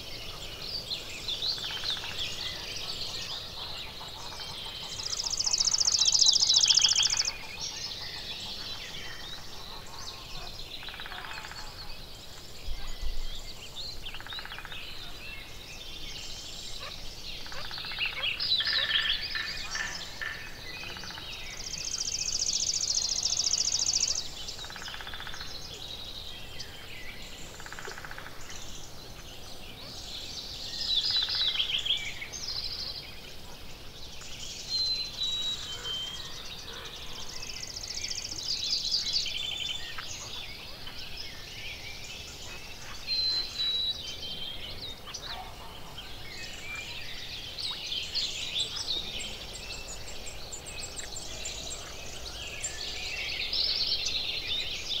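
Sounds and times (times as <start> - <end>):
songbirds singing and calling: 0.0 - 55.0.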